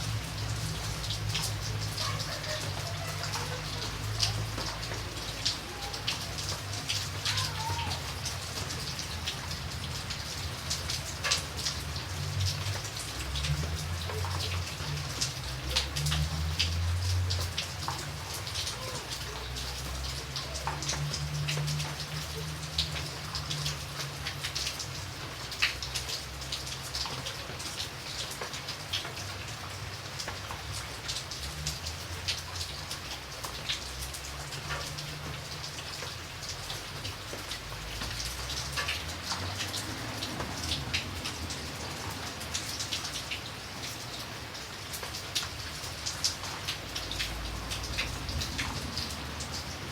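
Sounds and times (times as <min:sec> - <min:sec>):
rain falling: 0:00.0 - 0:49.9
raindrops ticking on surface: 0:00.0 - 0:49.9.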